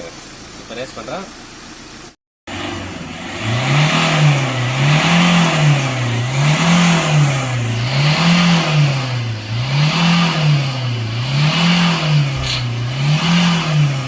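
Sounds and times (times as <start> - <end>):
vehicle engine revving: 2.5 - 14.0.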